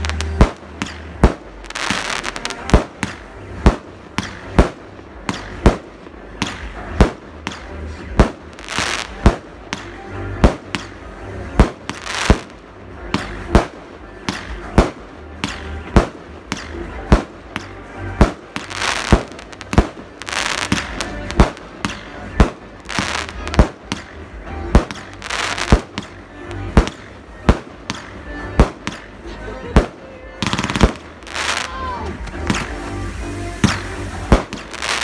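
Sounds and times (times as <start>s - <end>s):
fireworks bursting with bangs: 0.0s - 35.0s
fireworks hiss and crackle: 0.0s - 35.0s.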